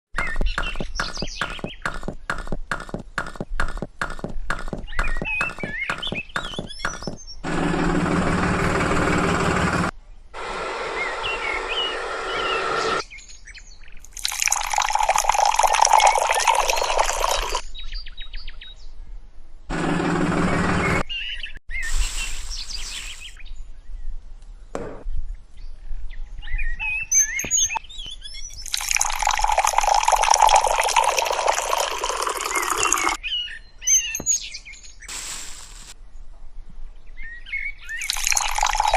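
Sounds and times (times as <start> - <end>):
birds chirping: 0.1 - 7.5, 11.0 - 18.9, 19.8 - 35.9, 37.0 - 38.9.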